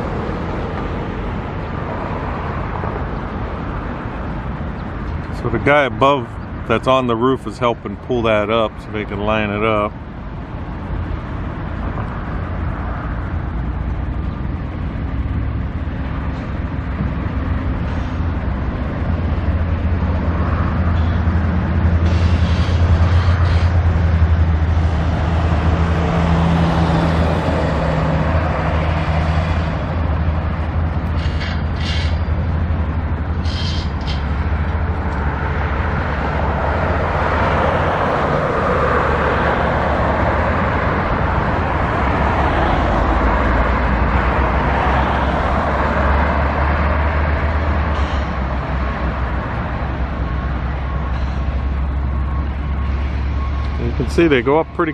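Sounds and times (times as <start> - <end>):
vehicle engines rumbling: 0.0 - 54.9.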